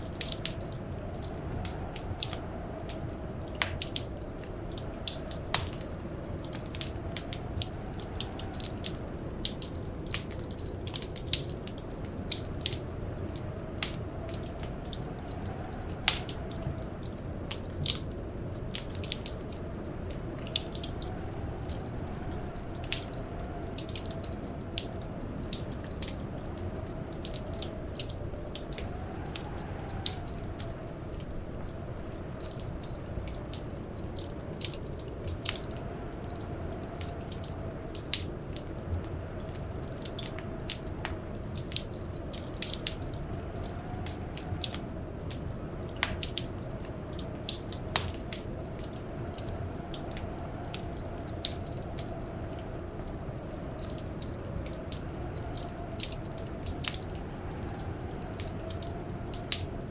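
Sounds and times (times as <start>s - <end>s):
blizzard wind whistling: 0.0s - 59.9s
wood fire crackling: 0.0s - 59.9s.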